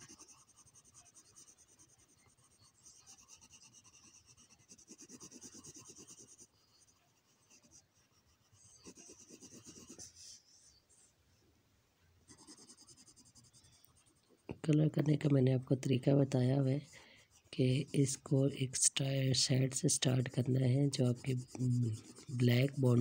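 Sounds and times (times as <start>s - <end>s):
pencil scratching on paper: 0.0s - 11.2s, 12.2s - 23.0s.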